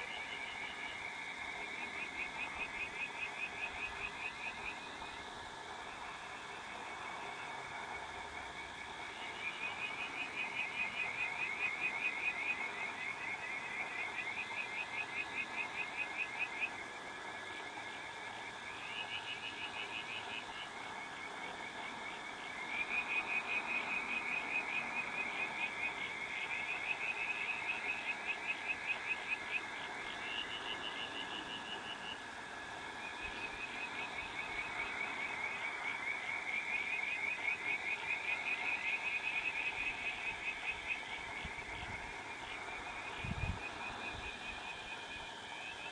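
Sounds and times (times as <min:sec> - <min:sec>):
frogs calling in pulsed trills: 0:00.0 - 0:45.9.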